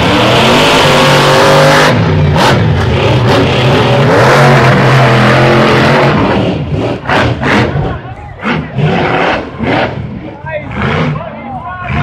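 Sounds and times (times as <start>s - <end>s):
monster truck engine at full throttle: 0.0s - 12.0s.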